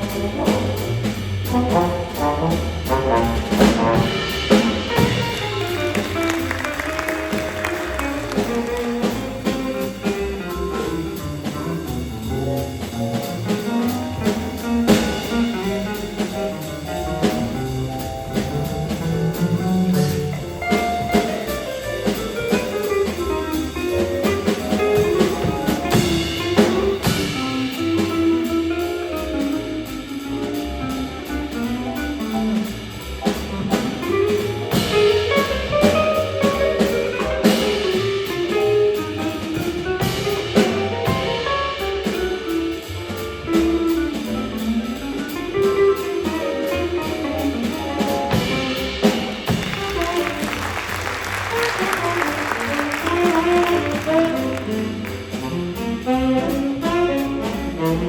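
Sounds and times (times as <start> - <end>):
drum kit and cymbal hits: 0.0 - 58.0
jazz melody line: 0.0 - 58.0
walking bass: 0.0 - 58.0.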